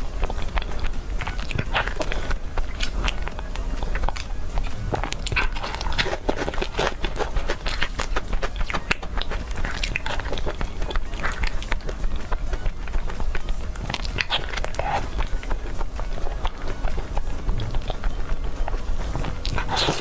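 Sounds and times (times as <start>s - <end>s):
crunchy food being chewed: 0.0s - 20.0s
low steady hum: 0.0s - 20.0s.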